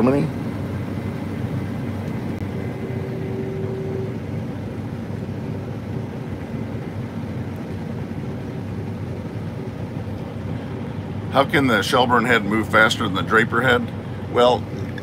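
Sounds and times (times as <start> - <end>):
combine harvester engine drone: 0.0 - 15.0
short steady whine: 0.0 - 15.0.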